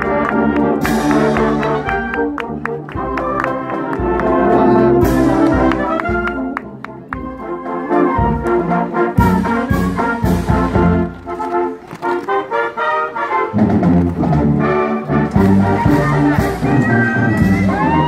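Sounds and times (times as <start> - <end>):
brass playing a tune: 0.0 - 18.0.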